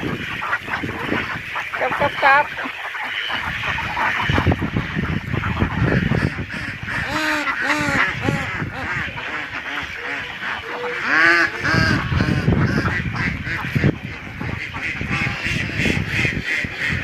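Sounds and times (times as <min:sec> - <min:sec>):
ducks quacking: 0:00.0 - 0:17.0
geese honking: 0:00.0 - 0:17.0.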